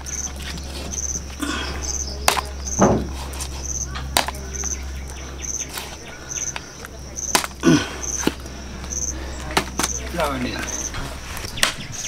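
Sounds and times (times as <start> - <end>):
high insect chirp: 0.0 - 12.0.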